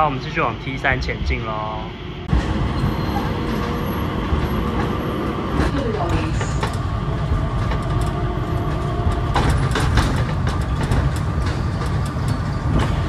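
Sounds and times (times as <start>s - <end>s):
people mover train rumbling with whine: 0.0s - 13.0s.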